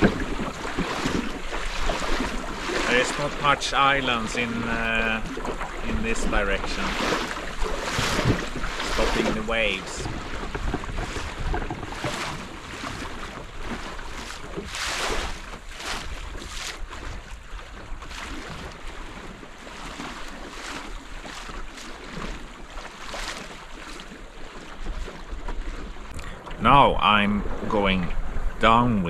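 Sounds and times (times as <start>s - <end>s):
wind rumble on microphone: 0.0s - 20.0s, 24.7s - 29.0s
wash of water: 0.0s - 29.0s
waves splashing against wooden hull: 0.0s - 29.0s.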